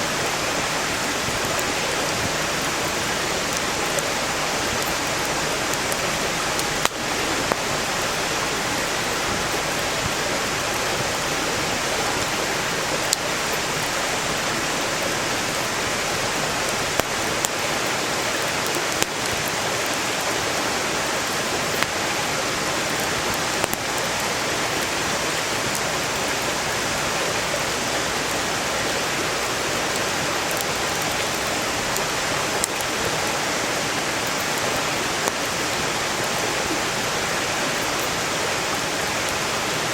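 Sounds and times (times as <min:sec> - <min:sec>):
campfire popping and crackling: 0:00.0 - 0:39.9
stream rushing: 0:00.0 - 0:39.9.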